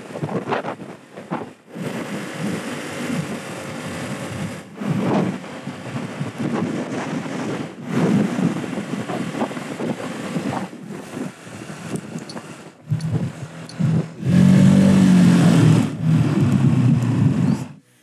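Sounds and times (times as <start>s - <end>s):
wind rush: 0.0s - 17.8s
moped engine humming: 0.8s - 18.0s.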